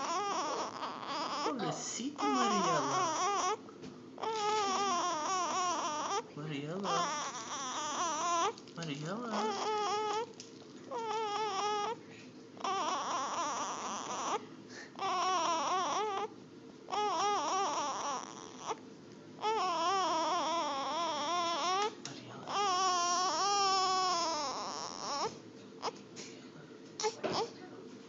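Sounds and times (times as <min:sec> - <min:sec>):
infant crying: 0:00.0 - 0:03.6, 0:04.2 - 0:08.6, 0:09.3 - 0:10.3, 0:10.9 - 0:12.0, 0:12.6 - 0:16.3, 0:16.9 - 0:18.8, 0:19.4 - 0:26.0.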